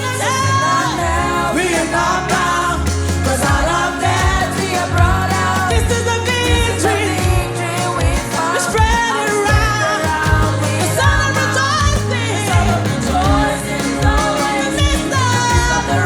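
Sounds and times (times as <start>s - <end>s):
bass line: 0.0s - 16.0s
person singing with vibrato: 0.0s - 16.0s
steady drum beat: 0.0s - 16.0s.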